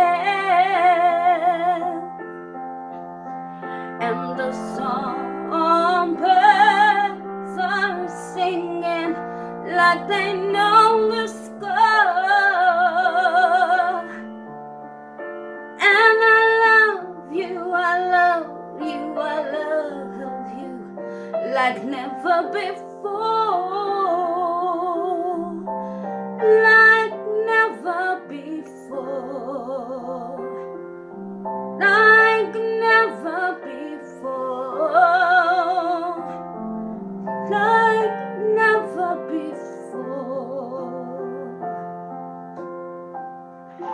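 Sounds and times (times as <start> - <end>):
woman singing with vibrato: 0.0 - 2.2, 4.0 - 14.4, 15.8 - 25.8, 26.4 - 30.8, 31.8 - 36.4, 37.4 - 41.6
piano accompaniment: 0.0 - 43.9.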